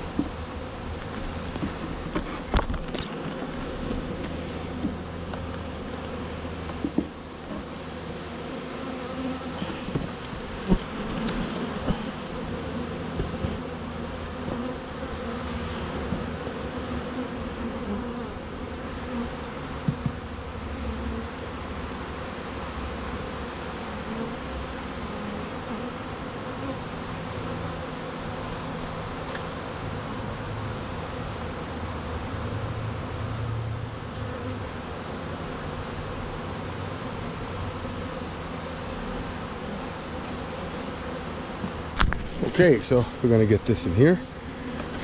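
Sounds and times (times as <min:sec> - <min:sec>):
bees buzzing: 0:00.0 - 0:45.0.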